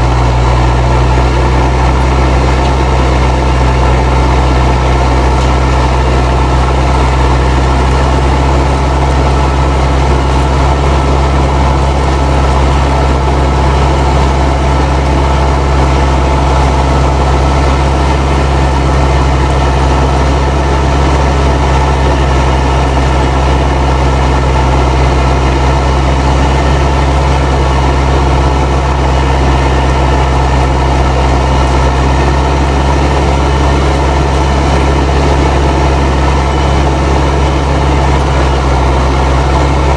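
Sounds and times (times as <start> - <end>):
tractor diesel engine under load: 0.0 - 39.9
turbocharger whistling: 0.0 - 39.9.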